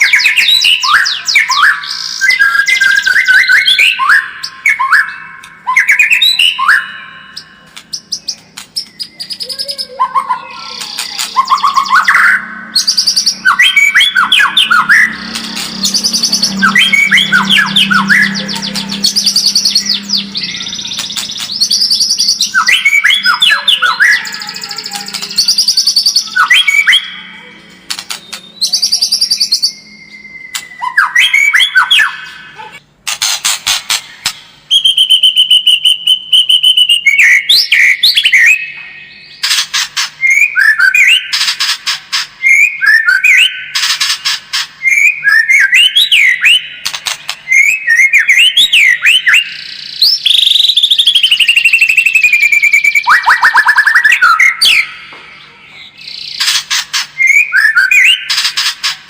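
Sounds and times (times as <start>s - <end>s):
songbird singing trills and whistles: 0.0s - 32.8s, 34.0s - 59.0s.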